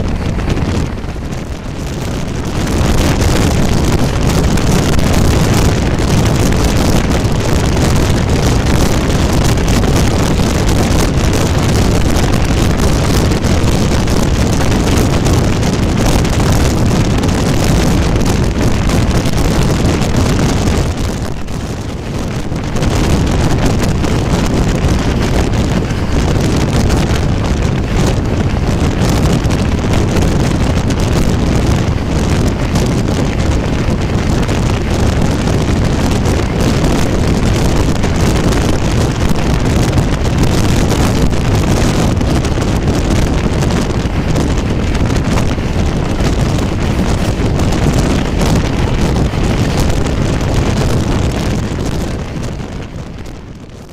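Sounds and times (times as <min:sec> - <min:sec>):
passenger train rumbling on track: 0:00.0 - 0:53.9
wind buffeting microphone: 0:00.0 - 0:53.9.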